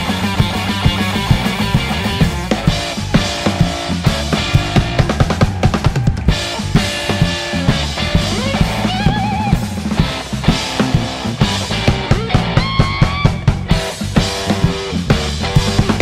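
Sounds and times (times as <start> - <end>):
bass guitar: 0.0 - 16.0
drum kit: 0.0 - 16.0
electric guitar solo: 0.0 - 16.0.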